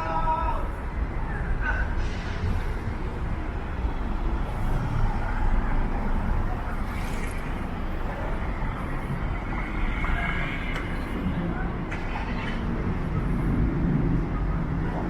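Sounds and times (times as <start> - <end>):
vehicles passing with low rumble: 0.0 - 15.0.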